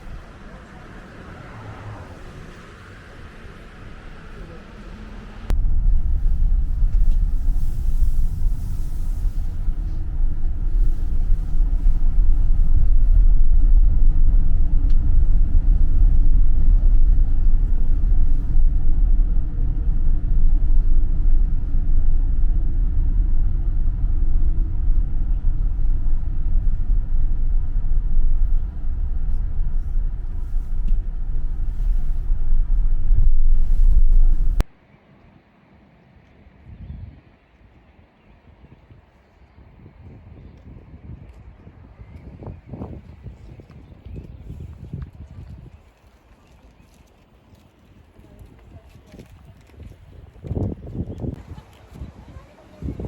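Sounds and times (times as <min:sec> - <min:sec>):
moving vehicle rumble: 0:00.0 - 0:34.9, 0:39.7 - 0:53.0.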